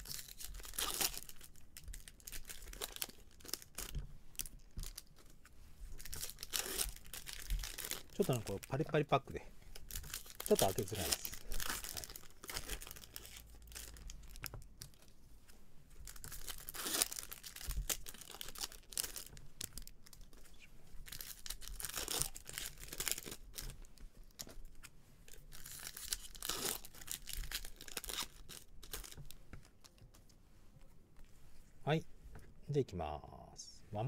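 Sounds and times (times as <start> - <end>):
foil wrapper crinkling and tearing: 0.0 - 5.3, 6.0 - 15.1, 16.0 - 30.0.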